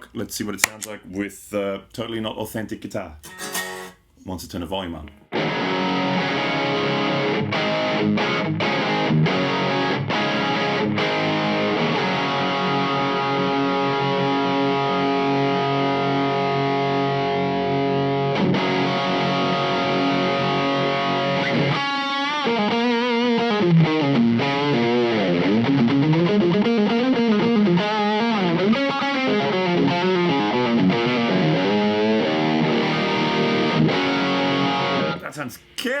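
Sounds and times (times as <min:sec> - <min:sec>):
distorted electric guitar chords: 0:05.4 - 0:35.2
electric guitar lead with bends: 0:05.4 - 0:35.2.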